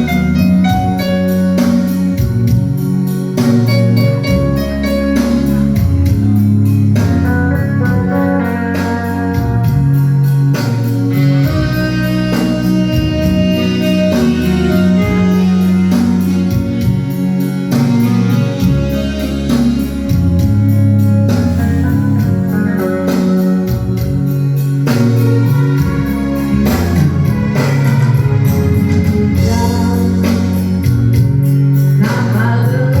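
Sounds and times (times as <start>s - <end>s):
electronic organ music with beat: 0.0s - 33.0s.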